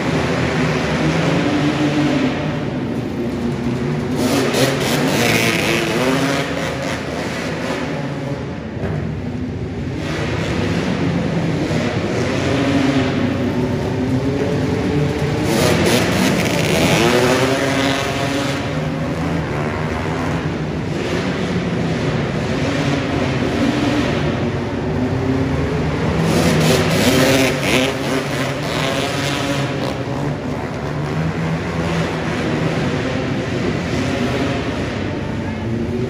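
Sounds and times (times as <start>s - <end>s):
atv engines revving: 0.0s - 36.0s.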